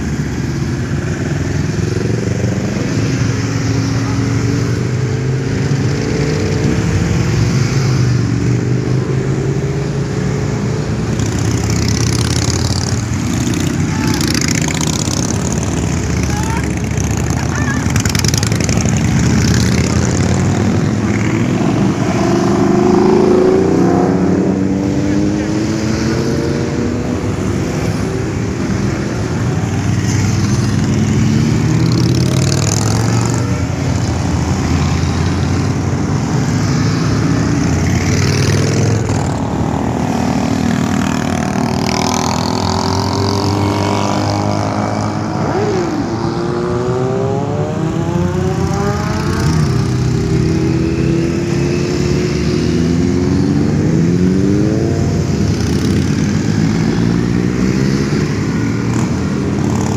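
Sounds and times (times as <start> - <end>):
motorcycle engines accelerating: 0.0 - 59.9
motorcycles riding past: 0.0 - 59.9.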